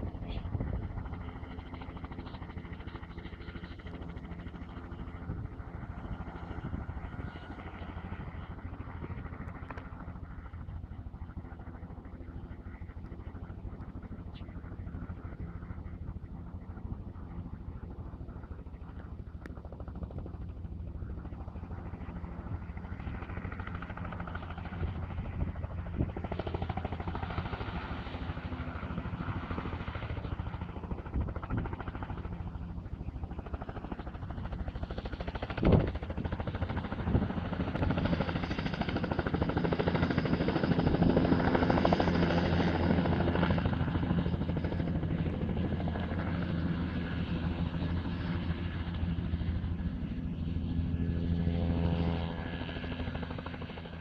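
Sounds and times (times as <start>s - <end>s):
helicopter turbine and rotor noise: 0.0s - 54.0s.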